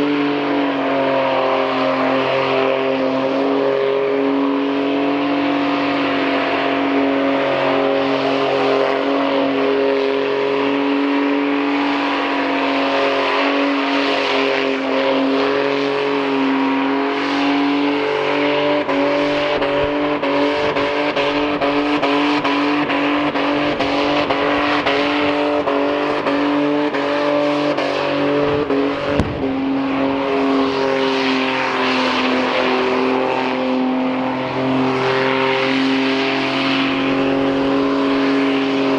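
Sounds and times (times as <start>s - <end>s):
car engine droning: 0.0s - 38.9s
road and wind noise: 0.0s - 38.9s.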